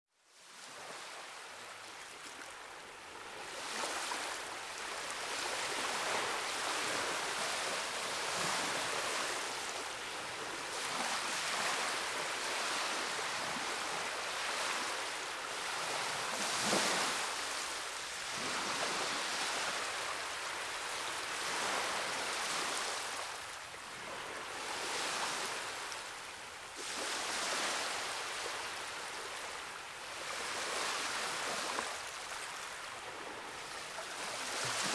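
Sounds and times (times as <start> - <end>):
ocean surf waves: 0.5 - 34.9.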